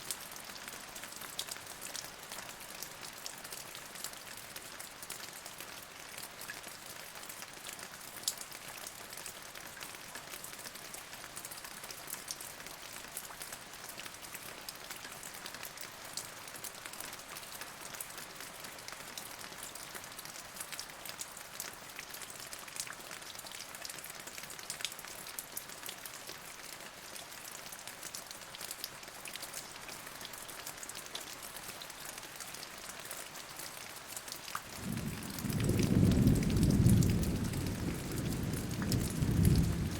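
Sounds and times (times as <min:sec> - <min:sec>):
raindrops ticking on surfaces: 0:00.0 - 0:39.9
steady rain: 0:00.0 - 0:39.9.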